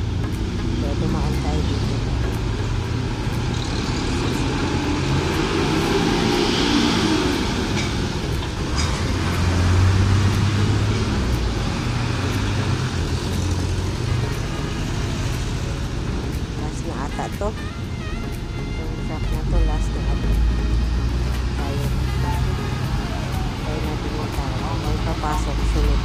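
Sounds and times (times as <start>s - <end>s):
engine revving: 0.0s - 26.0s
heavy truck engine rumbling: 0.0s - 26.0s
vehicles driving past: 0.0s - 26.0s.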